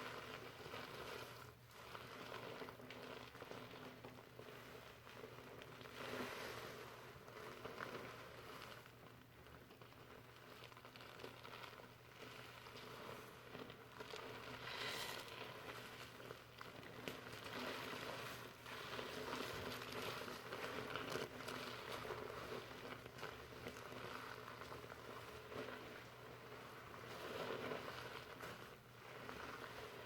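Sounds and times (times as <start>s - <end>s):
shampoo lather rustling in hair: 0.0s - 30.0s.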